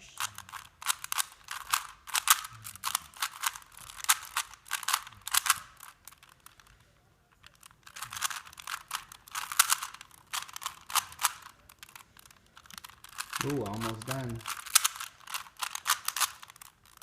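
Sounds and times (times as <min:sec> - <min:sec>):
puzzle cube plastic clicks: 0:00.2 - 0:17.0.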